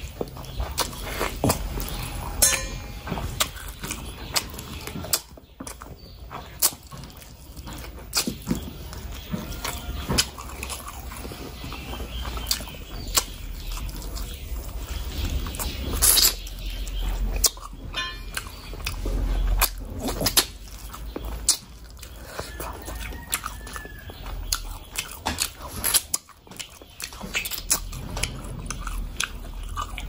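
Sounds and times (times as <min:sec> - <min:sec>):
chewing and lip-smacking: 0:00.0 - 0:30.0.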